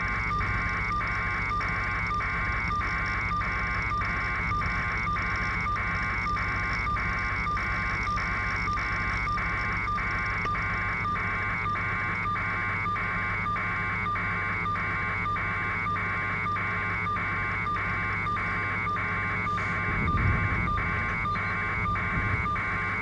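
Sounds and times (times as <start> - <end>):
pulsing electronic buzzing tone: 0.0 - 23.0
steady low hum: 0.0 - 23.0.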